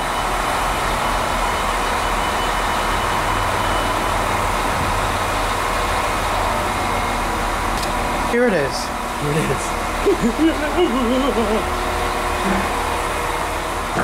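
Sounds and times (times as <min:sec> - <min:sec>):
diesel train idling: 0:00.0 - 0:14.0.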